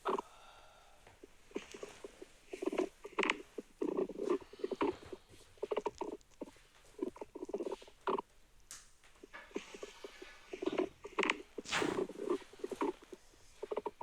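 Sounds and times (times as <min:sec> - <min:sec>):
stomach gurgling: 0:00.0 - 0:00.2, 0:01.1 - 0:08.3, 0:09.2 - 0:14.0.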